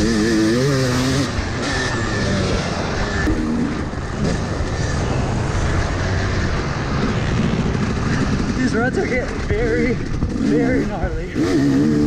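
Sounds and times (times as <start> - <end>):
two-stroke motocross engine revving: 0.0 - 12.0.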